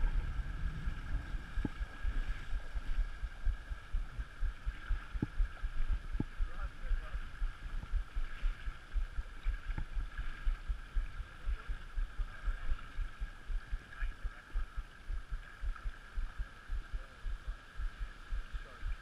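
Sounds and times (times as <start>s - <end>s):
flowing creek water: 0.0s - 19.0s.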